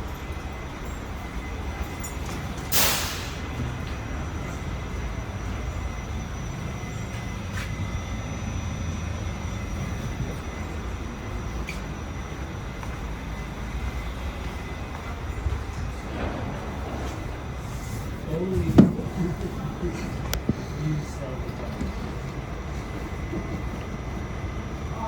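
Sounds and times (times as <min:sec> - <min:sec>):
subway car low rumble: 0:00.0 - 0:25.0.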